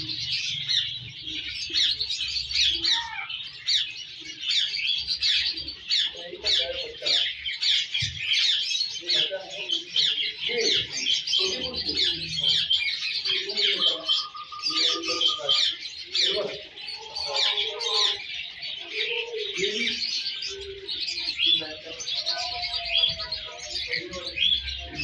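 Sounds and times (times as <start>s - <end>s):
finches chirping and twittering: 0.0s - 25.0s.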